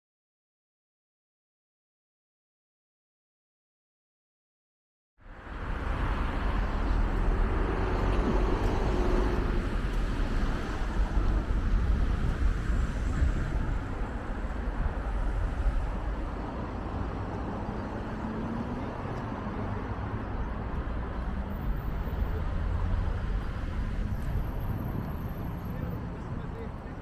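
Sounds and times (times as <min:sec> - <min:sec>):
street traffic rumble: 0:05.2 - 0:27.0.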